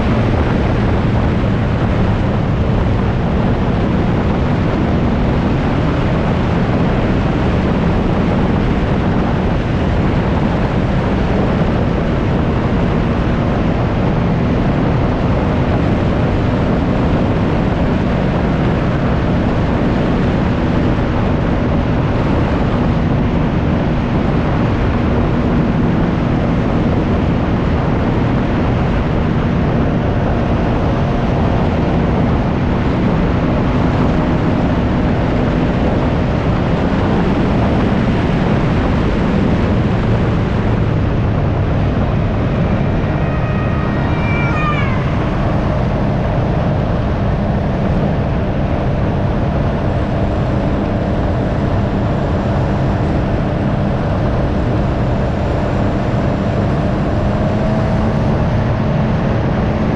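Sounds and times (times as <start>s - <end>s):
engine running at cruise: 0.0s - 59.9s
wind rush over microphone: 0.0s - 59.9s.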